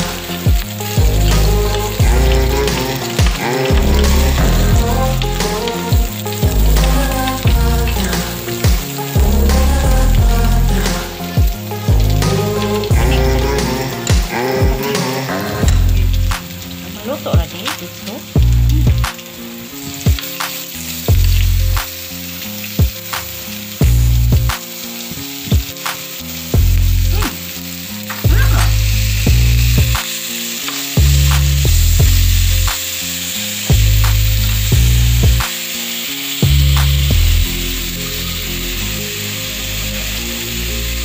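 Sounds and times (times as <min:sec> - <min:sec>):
music with heavy bass beat: 0:00.0 - 0:19.3, 0:20.0 - 0:22.0, 0:22.7 - 0:35.7, 0:36.4 - 0:39.2
meat sizzling on a griddle: 0:00.0 - 0:41.0.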